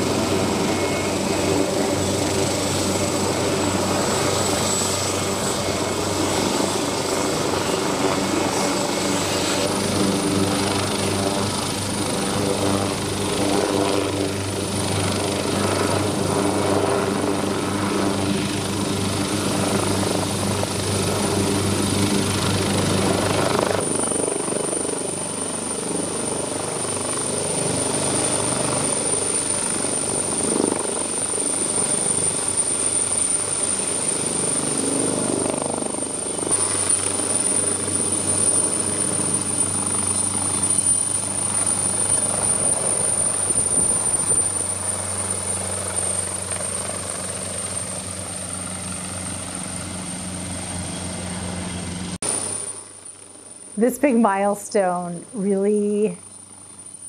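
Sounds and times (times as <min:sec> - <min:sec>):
helicopter engines and rotor: 0:00.0 - 0:57.0.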